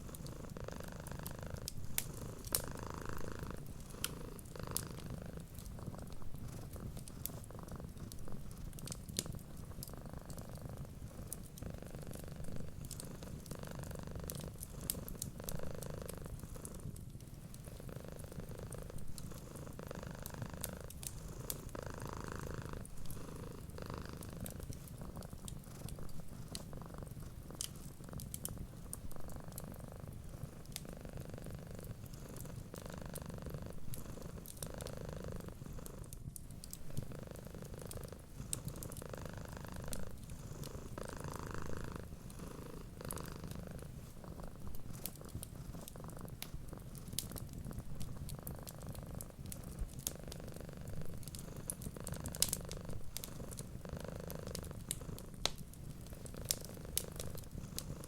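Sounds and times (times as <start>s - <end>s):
cat purring: 0.0s - 58.0s
wood fire crackling: 0.0s - 58.0s.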